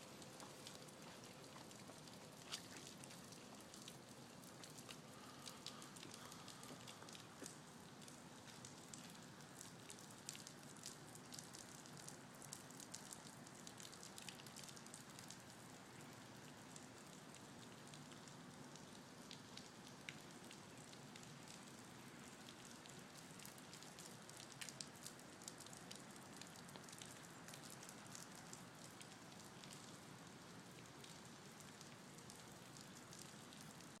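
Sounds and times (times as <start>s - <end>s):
faint outdoor hiss: 0.0s - 34.0s.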